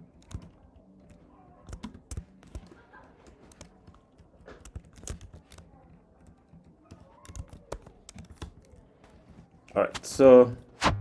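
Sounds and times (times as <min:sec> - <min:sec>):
computer keyboard typing: 0:00.0 - 0:09.8.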